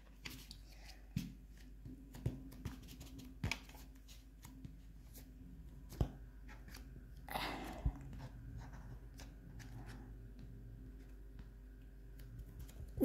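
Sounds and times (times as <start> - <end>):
hands kneading modelling clay: 0.0 - 13.0.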